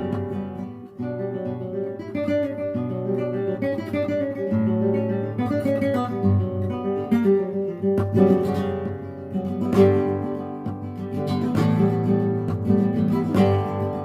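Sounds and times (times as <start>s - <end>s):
plucked and strummed guitar: 0.0s - 14.0s.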